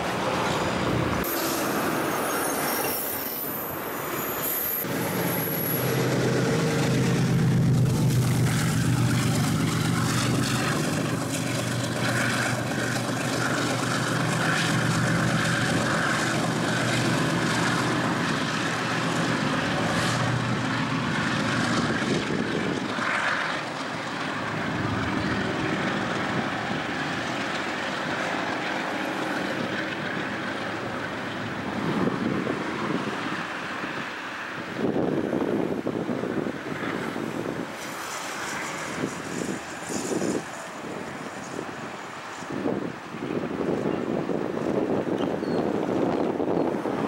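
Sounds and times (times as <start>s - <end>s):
diesel locomotive engine humming: 0.0s - 47.0s
road traffic: 0.0s - 47.0s.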